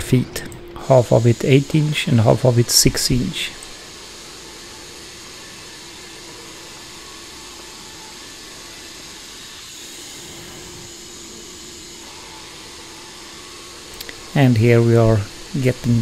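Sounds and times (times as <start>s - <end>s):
band sawmill running: 0.0s - 16.0s.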